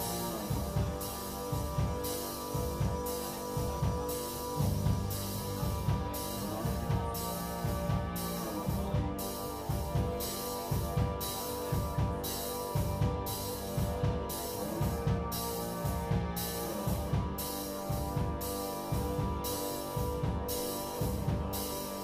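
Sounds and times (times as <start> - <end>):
bass guitar: 0.0 - 22.0
drum kit beat with cymbals: 0.0 - 22.0
keyboards: 0.0 - 22.0.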